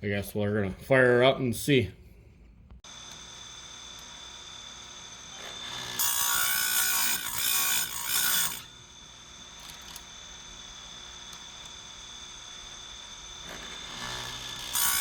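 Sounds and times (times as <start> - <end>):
grinder motor whine: 2.8 - 15.0.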